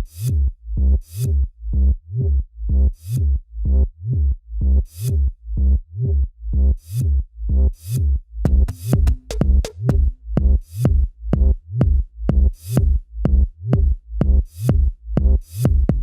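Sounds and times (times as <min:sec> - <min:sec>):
deep kick drums: 0:00.0 - 0:16.0.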